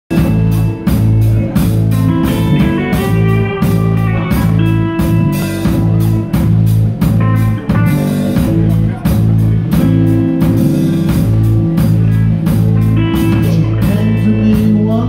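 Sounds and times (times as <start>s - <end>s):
lead guitar melody: 0.1s - 15.0s
rock band playing: 0.1s - 15.0s.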